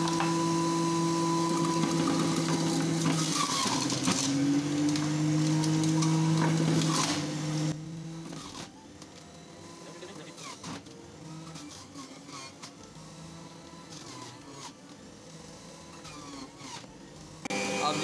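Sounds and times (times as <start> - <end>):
electric juicer motor grinding: 0.0 - 18.0.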